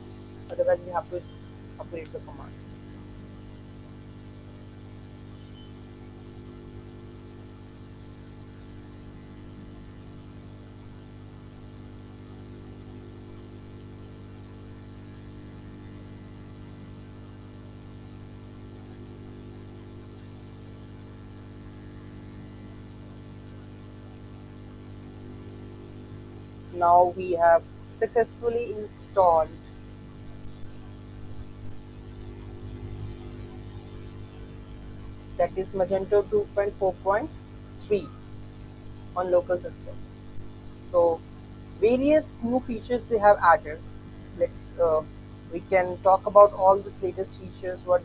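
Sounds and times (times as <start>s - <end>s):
electrical mains hum: 0.0s - 48.0s.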